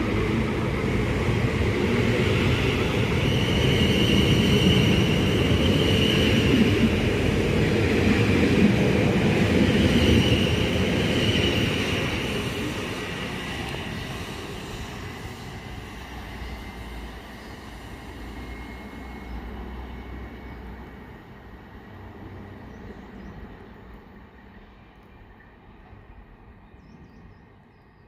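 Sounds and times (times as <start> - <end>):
train running past: 0.0 - 28.0.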